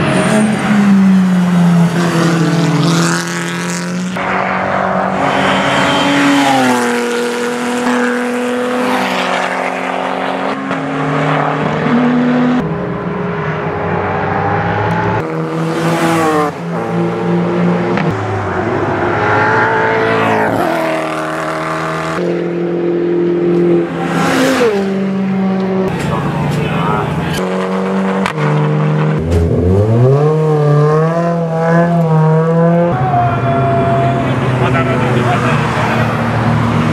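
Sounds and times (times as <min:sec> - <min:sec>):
racing cars passing at high revs: 0:00.0 - 0:36.9.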